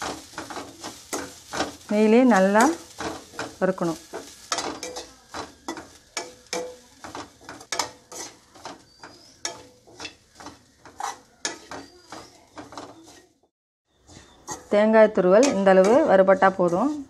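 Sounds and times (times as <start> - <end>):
metal spoon scraping metal pan: 0.0 - 13.4, 14.1 - 17.0
faint sizzle: 0.0 - 17.0.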